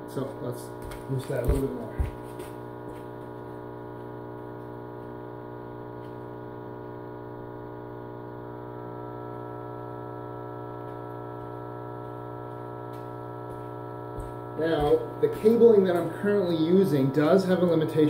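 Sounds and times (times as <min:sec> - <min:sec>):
inverter humming: 0:00.0 - 0:18.0.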